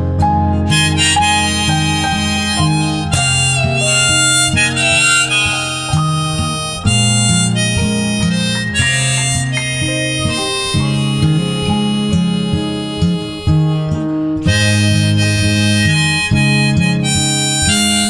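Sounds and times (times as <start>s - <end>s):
harmonica melody: 0.0s - 18.0s
piano accompaniment: 0.0s - 18.0s
strummed acoustic guitar: 0.0s - 18.0s.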